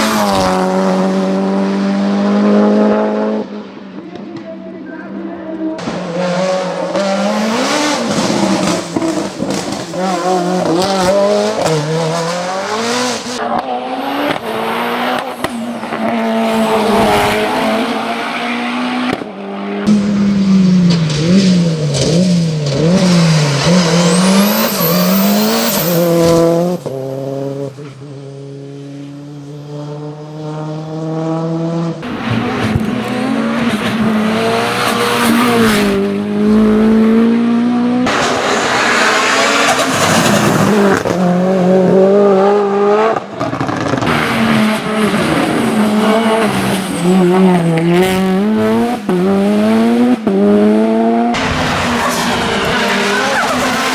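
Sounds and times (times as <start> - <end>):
racing car engine revving: 5.4 - 53.9.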